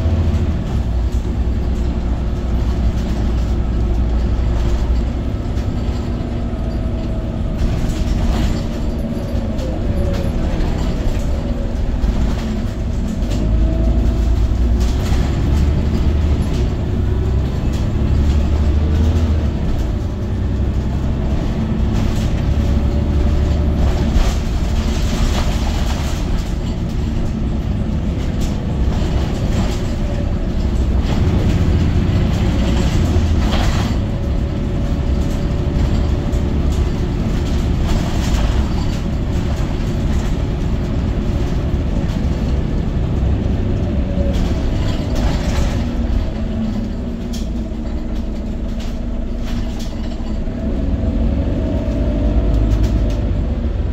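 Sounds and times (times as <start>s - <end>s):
bus engine and road rumble: 0.0s - 53.9s
rattles and knocks from bus body: 0.0s - 53.9s.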